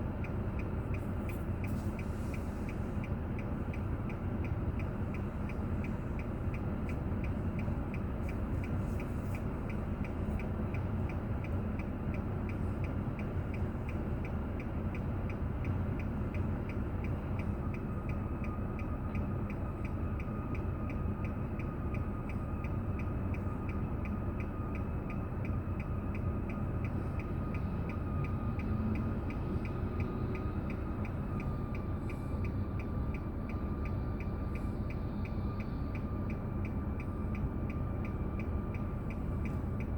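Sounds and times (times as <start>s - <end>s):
engine and road hum: 0.0s - 39.9s
turn signal ticking: 0.0s - 39.9s.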